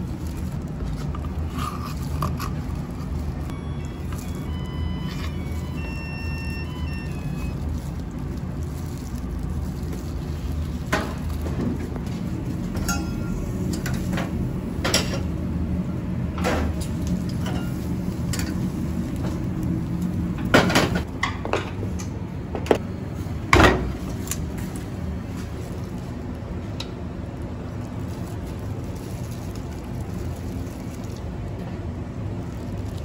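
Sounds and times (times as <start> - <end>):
low kitchen hum: 0.0 - 33.0.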